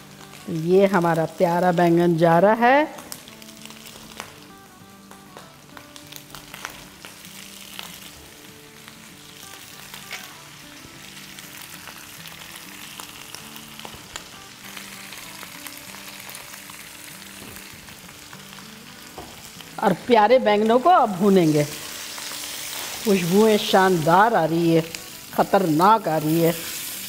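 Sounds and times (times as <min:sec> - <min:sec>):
eggplant sizzling in hot oil: 0:00.0 - 0:27.0
soft background music: 0:00.0 - 0:27.0.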